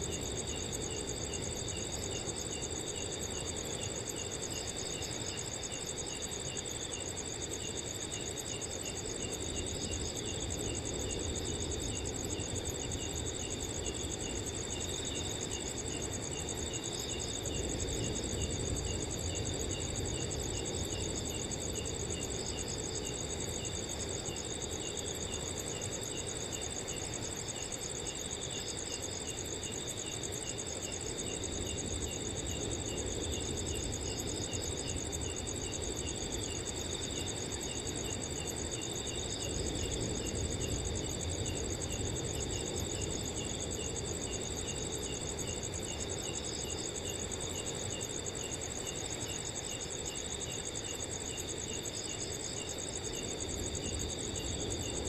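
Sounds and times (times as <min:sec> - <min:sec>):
crickets trilling: 0:00.0 - 0:55.0
low-pitched cricket chirping: 0:00.0 - 0:55.0.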